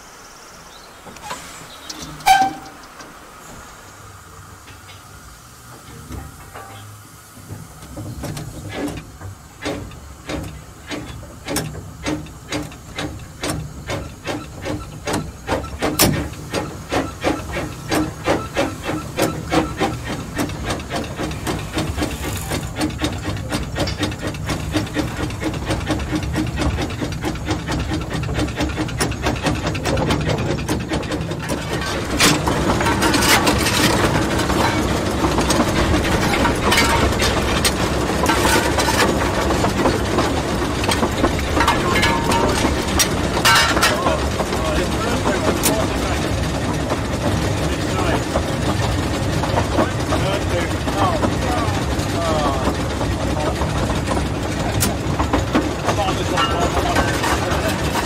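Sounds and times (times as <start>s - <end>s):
steam hissing: 0.0s - 58.0s
steam locomotive exhaust beats: 0.0s - 58.0s.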